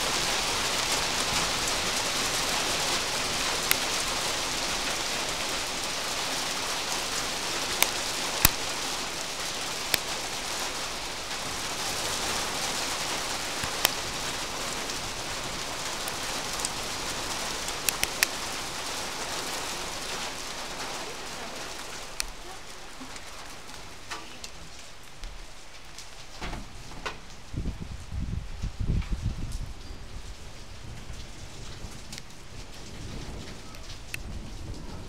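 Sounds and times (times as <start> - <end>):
hail and rain falling: 0.0 - 35.0.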